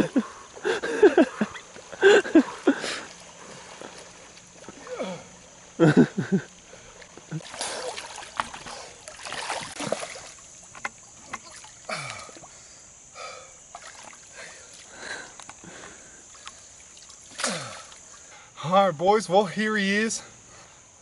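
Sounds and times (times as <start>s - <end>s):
water splashing and sloshing: 0.0s - 12.8s, 13.5s - 18.5s.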